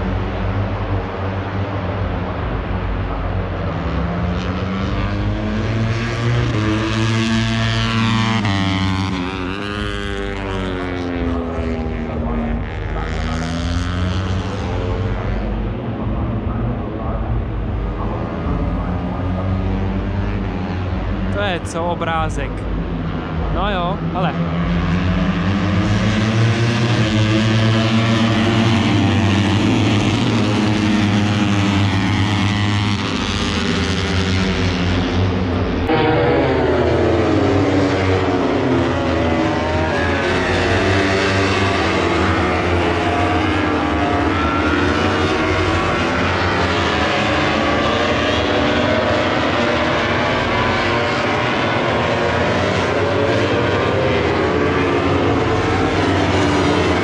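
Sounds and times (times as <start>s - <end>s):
racing motorcycle engines: 0.0s - 57.0s.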